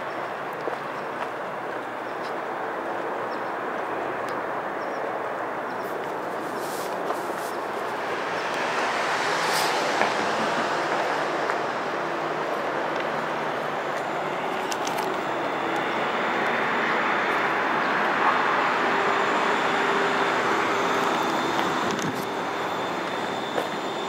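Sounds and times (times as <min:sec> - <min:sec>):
road traffic rush: 0:00.0 - 0:24.0.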